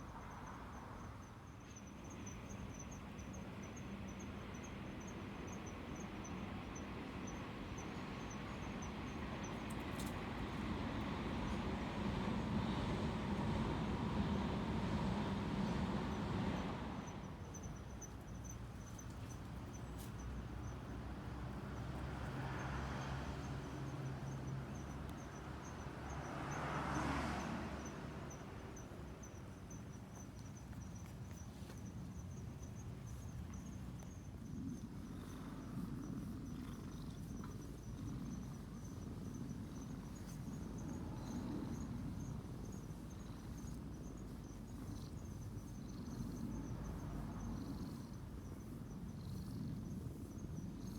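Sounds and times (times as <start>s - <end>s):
crickets chirping: 0.0s - 50.9s
passing traffic: 8.8s - 50.9s.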